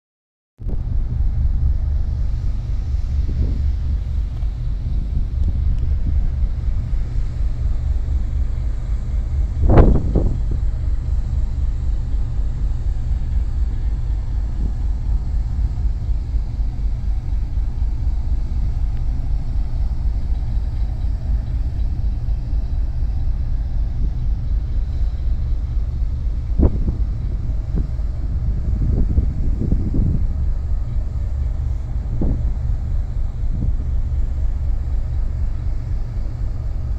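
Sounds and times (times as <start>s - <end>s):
ship engine drone: 0.6s - 36.9s
wind buffeting microphone: 0.6s - 36.9s.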